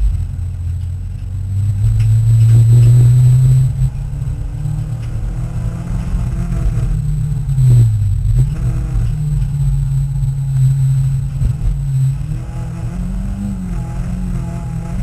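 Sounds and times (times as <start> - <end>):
racing car engine at full throttle: 0.0 - 15.0.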